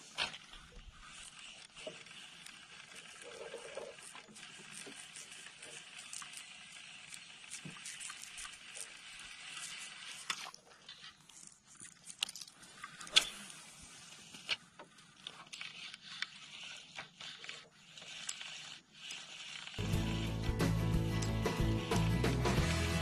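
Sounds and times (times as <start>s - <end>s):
fishing rod and reel clicks: 1.0s - 19.8s.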